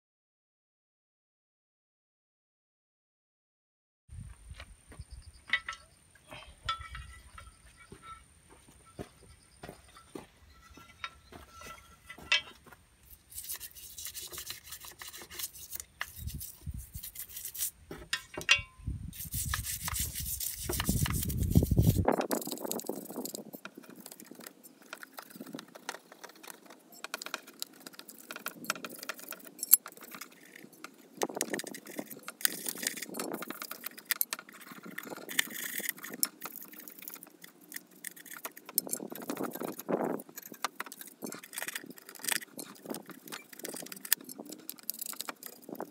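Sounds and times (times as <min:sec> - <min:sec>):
metal tools clinking and scraping: 0:05.5 - 0:45.9.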